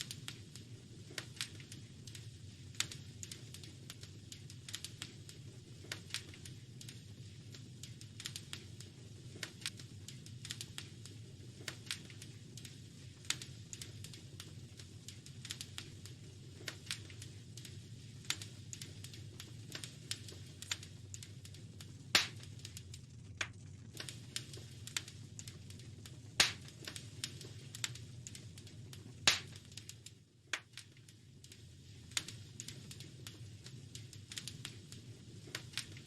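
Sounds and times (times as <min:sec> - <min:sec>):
fireplace fire crackling: 0:00.0 - 0:36.0
loud fire pops: 0:00.0 - 0:36.0.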